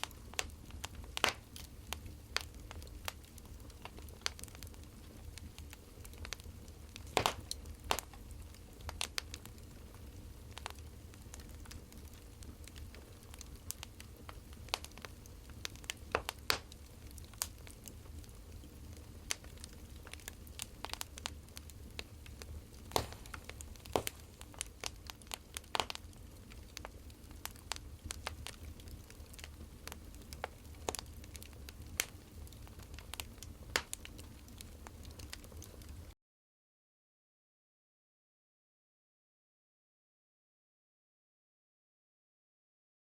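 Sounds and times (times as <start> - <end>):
wood fire crackling: 0.0 - 36.2.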